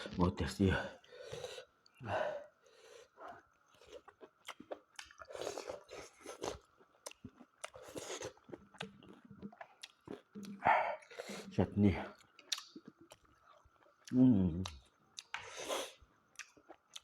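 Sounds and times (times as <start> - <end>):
person chewing food: 2.7 - 17.0.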